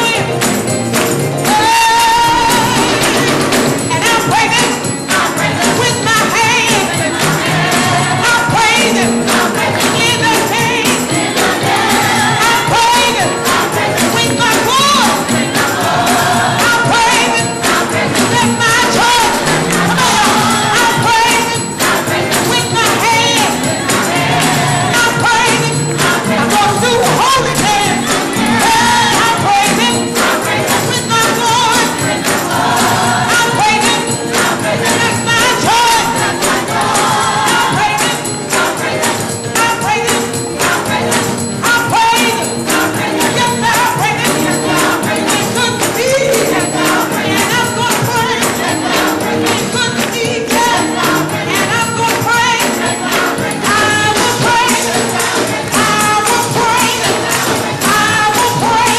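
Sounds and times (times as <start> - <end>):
gospel choir singing with instruments: 0.0 - 58.9.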